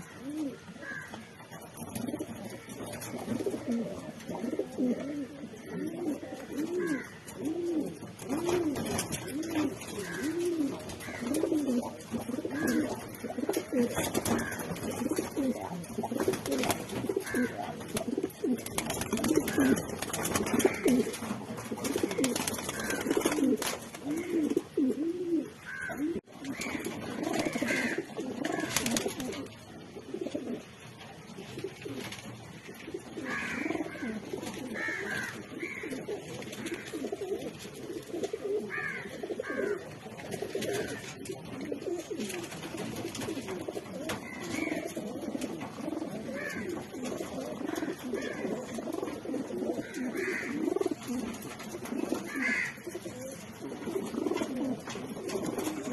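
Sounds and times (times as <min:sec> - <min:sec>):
birds chirping: 0:00.0 - 0:30.6, 0:31.6 - 0:55.9
pigeons cooing: 0:00.0 - 0:30.8, 0:31.4 - 0:55.9.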